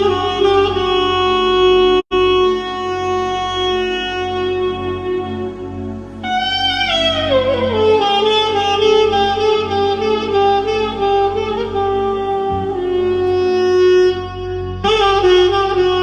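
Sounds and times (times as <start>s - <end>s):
band music led by wind instrument: 0.0s - 16.0s.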